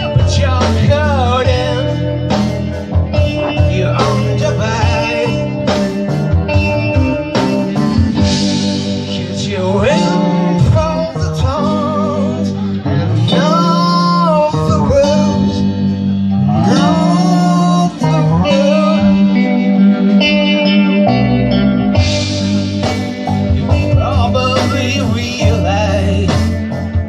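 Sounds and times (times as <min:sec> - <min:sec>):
electric guitar melody: 0:00.0 - 0:27.0
steady bass: 0:00.0 - 0:27.0.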